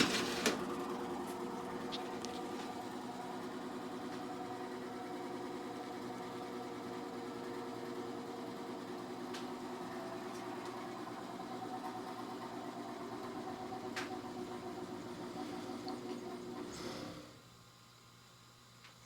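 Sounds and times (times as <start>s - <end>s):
machine humming: 0.0s - 17.8s.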